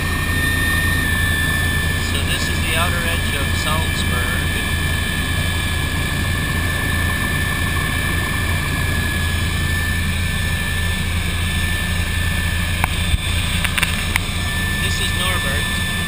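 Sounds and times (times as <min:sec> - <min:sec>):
helicopter rotor and engine drone: 0:00.0 - 0:16.0.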